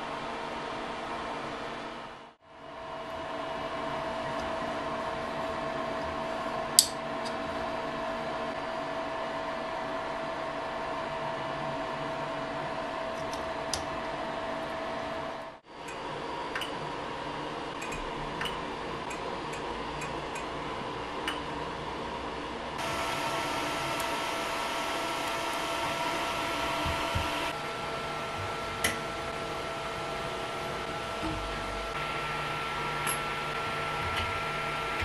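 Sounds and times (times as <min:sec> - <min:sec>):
cooling fans whirring: 0:00.0 - 0:35.0.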